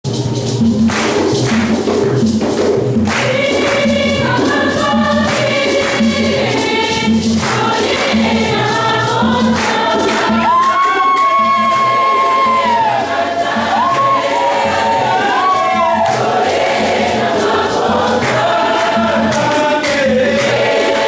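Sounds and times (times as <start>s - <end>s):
steady percussion beat: 0.1s - 21.0s
choir singing a hymn: 3.1s - 21.0s.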